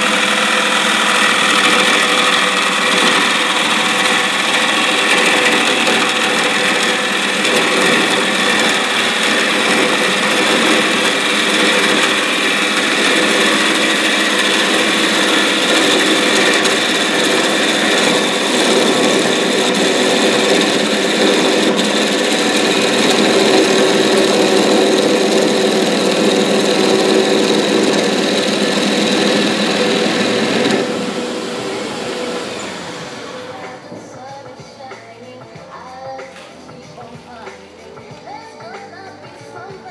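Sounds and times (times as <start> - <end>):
lathe humming: 0.0 - 35.0
tool cutting spinning wood: 0.0 - 35.0.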